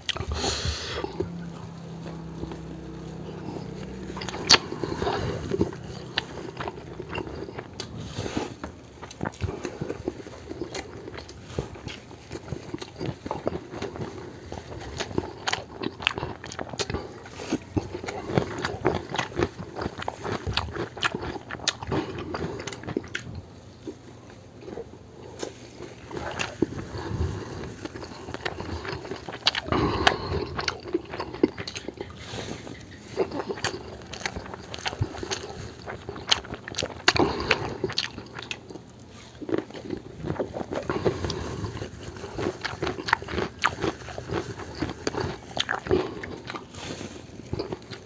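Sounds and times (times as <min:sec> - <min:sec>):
mouth clicks and crunches: 0:00.0 - 0:48.0
person chewing food: 0:00.0 - 0:48.0.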